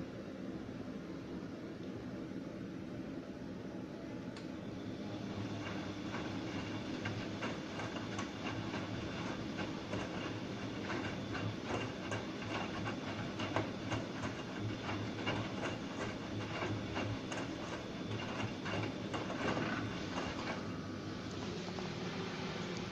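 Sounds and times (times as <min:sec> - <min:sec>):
washing machine motor hum: 0:00.0 - 0:22.9.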